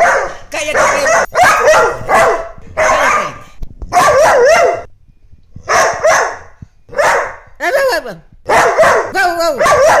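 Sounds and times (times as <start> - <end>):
dog barking: 0.0 - 4.9, 5.7 - 7.5, 8.5 - 10.0.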